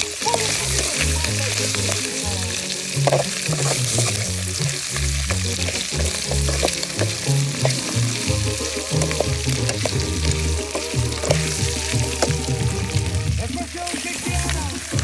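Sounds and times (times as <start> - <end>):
food sizzling and popping: 0.0 - 15.0
music with bass line: 0.0 - 15.0.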